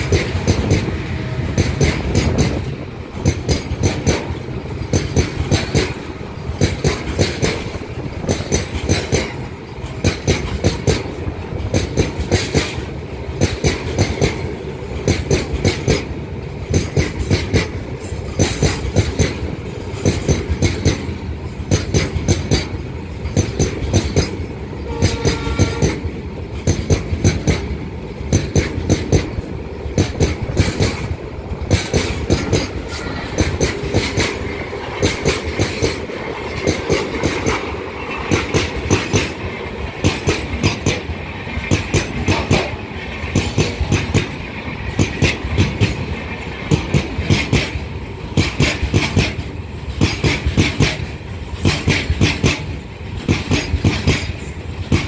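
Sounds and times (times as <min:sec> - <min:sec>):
freight train rolling rumble: 0:00.0 - 0:55.0
train wheels clattering over joints: 0:00.0 - 0:55.0.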